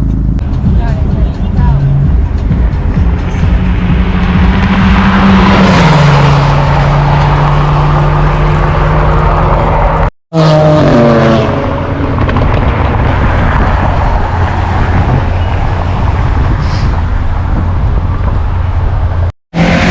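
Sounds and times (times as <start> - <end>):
car engine running loudly: 0.0 - 19.9.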